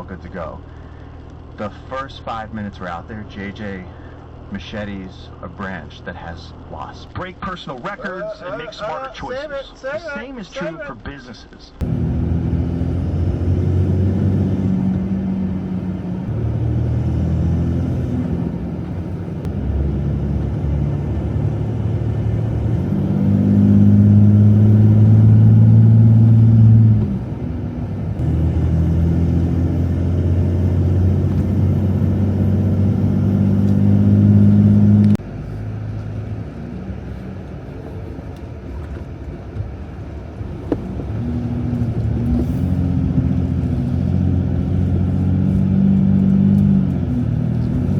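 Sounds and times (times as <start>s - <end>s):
diesel engine droning: 0.0s - 10.3s, 11.7s - 47.9s.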